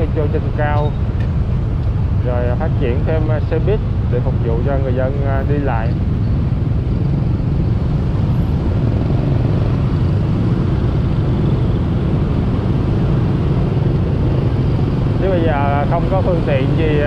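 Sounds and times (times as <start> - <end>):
motorbike and scooter traffic drone: 0.0 - 17.0.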